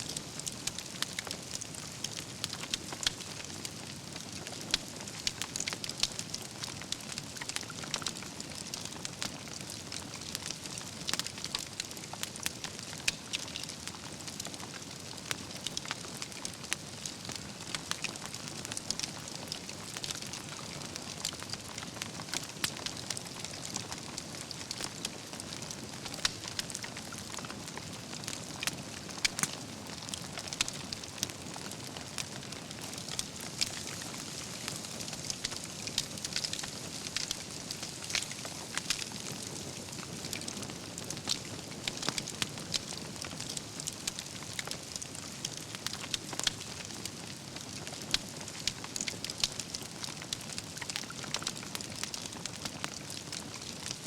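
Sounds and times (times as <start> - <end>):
campfire crackling and hissing: 0.0 - 54.0.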